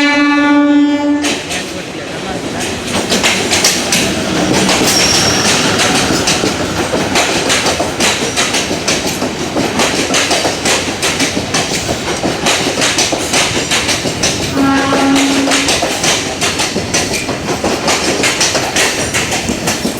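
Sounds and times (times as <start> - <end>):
train wheels clattering on rails: 1.1 - 19.9.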